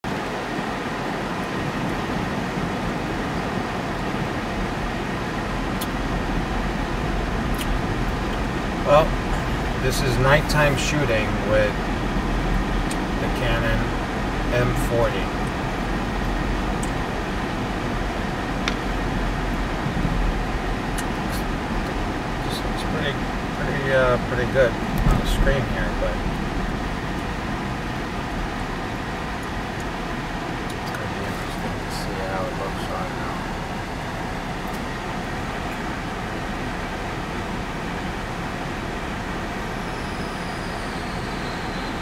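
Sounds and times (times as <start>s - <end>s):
heater fan running: 0.0s - 42.0s
road and engine noise in car: 0.0s - 42.0s.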